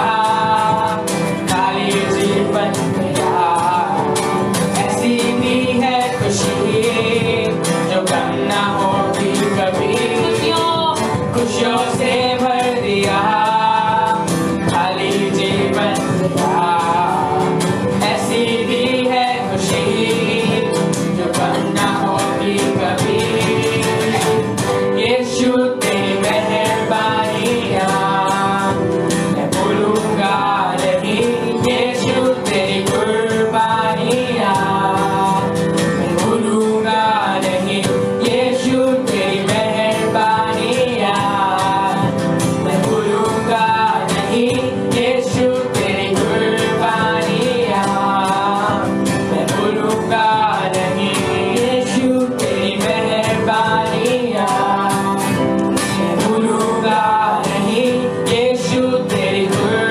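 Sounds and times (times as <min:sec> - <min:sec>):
guitar: 0:00.0 - 0:59.9
live worship band music: 0:00.0 - 0:59.9
singing melody line: 0:00.0 - 0:59.9.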